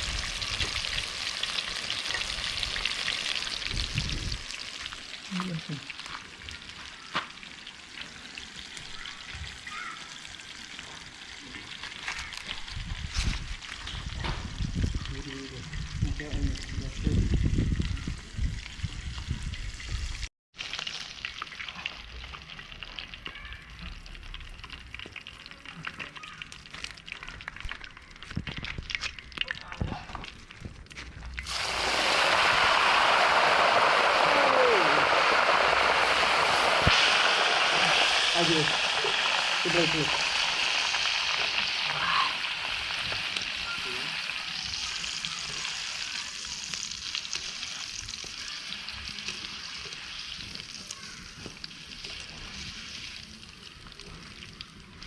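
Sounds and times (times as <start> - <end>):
chicken frying in oil: 0.0 - 55.0.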